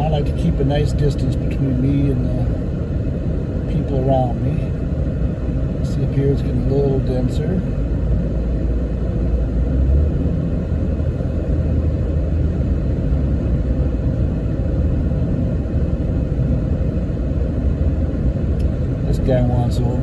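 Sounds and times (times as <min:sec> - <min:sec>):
car road rumble inside: 0:00.0 - 0:20.0.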